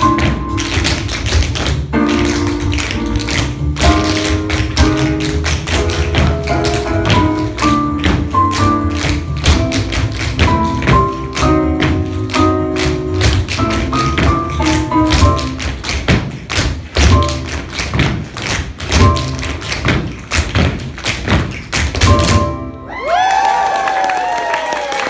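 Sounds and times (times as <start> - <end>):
tap shoes on wooden floor: 0.0 - 22.4.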